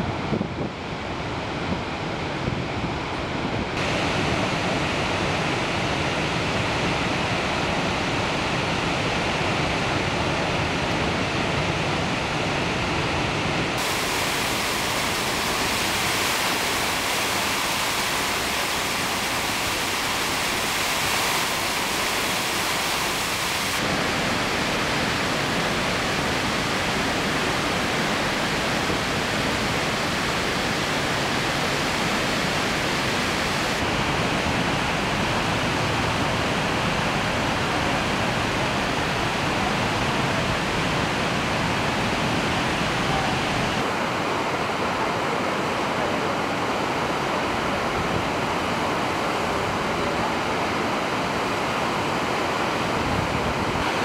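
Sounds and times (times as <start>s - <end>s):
waterfall rushing: 3.8s - 54.0s.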